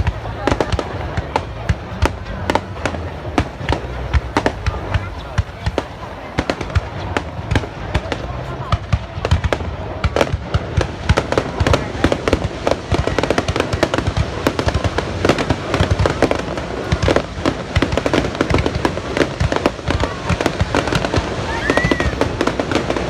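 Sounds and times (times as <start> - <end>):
fireworks bangs and cracks: 0.0 - 23.0.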